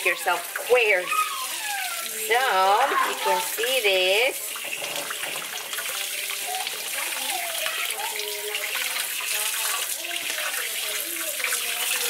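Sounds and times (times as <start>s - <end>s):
tap water splashing: 0.0s - 12.0s.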